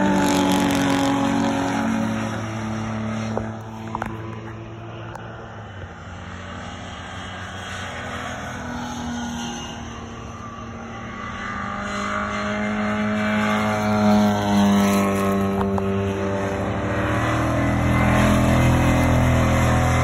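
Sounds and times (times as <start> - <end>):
louder racing car engine: 0.0 - 20.0
racing car passing: 0.0 - 20.0.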